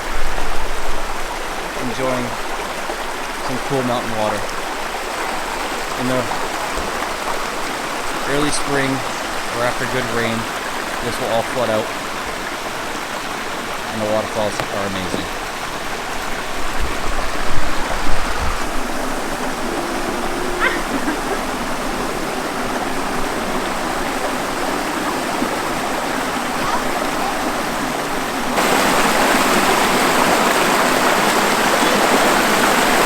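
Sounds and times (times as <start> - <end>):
stream and waterfall rushing: 0.0 - 33.0.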